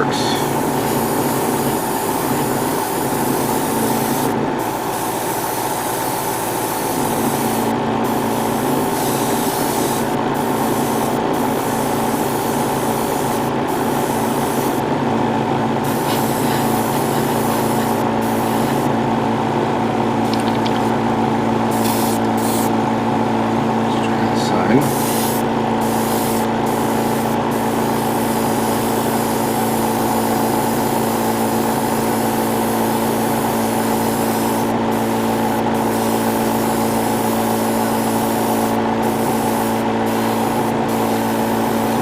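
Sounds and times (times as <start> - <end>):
airbrush compressor running: 0.0 - 42.0
airbrush spraying hiss: 0.4 - 14.8, 15.8 - 19.0, 21.7 - 22.8, 24.8 - 42.0.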